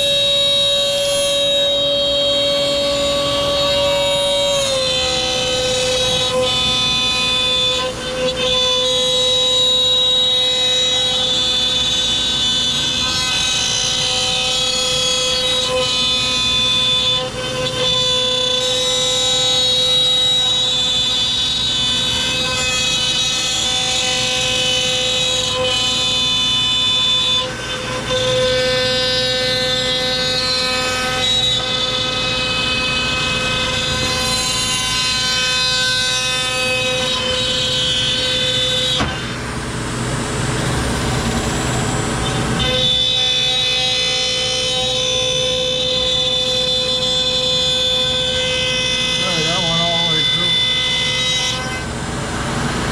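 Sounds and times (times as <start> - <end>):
router spindle whining cutting wood: 0.0 - 52.9.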